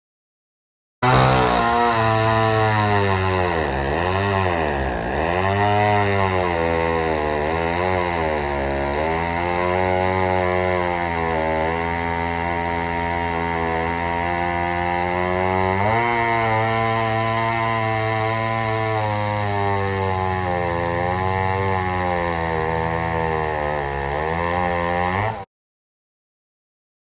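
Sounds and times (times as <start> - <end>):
chainsaw engine running: 1.0 - 25.5.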